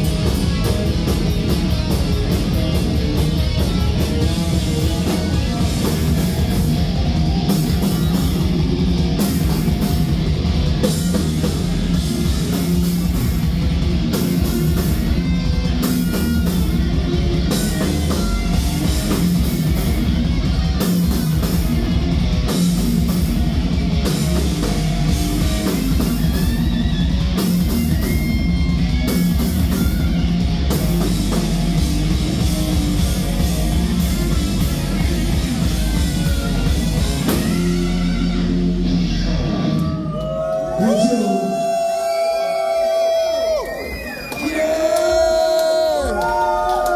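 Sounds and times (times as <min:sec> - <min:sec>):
drum kit: 0:00.0 - 0:40.4
electric guitars: 0:00.0 - 0:46.9
heavy metal band playing: 0:00.0 - 0:46.9.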